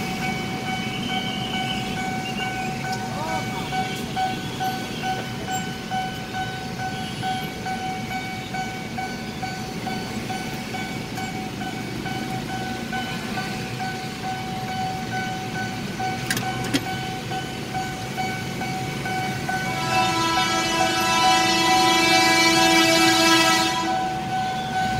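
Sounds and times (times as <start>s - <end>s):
level crossing warning bell: 0.0s - 24.9s
traffic hum: 0.0s - 24.9s.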